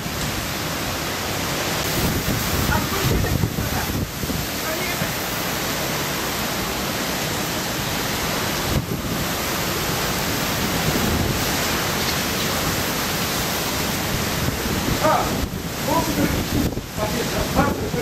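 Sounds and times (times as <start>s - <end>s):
heavy rain: 0.0s - 18.0s
typhoon wind: 0.0s - 18.0s.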